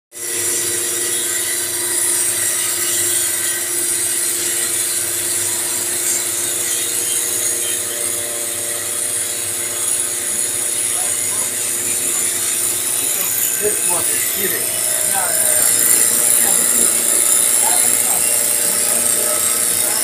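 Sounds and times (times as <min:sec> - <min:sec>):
cutter hissing on wood: 0:00.2 - 0:20.0
lathe motor whine: 0:00.2 - 0:20.0.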